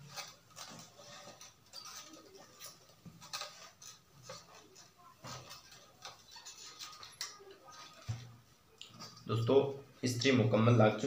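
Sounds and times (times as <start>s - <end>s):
iron tapping and scraping: 0.0s - 9.4s
cloth rustling: 0.0s - 10.0s.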